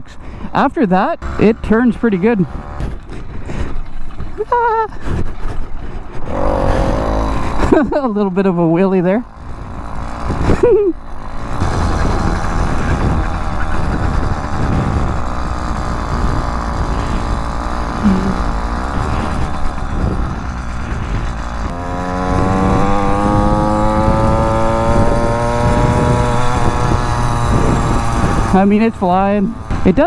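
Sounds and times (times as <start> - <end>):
two-stroke engine running: 0.1 - 30.0.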